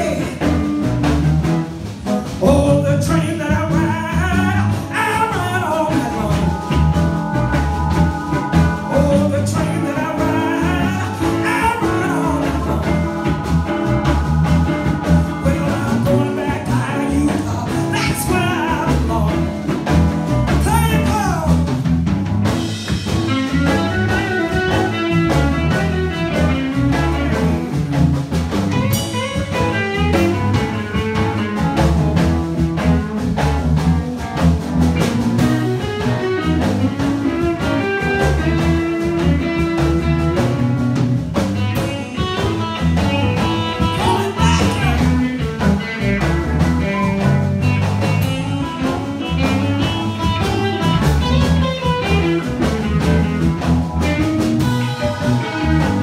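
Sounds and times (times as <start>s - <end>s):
electric guitar: 0.0s - 56.0s
live blues band playing: 0.0s - 56.0s.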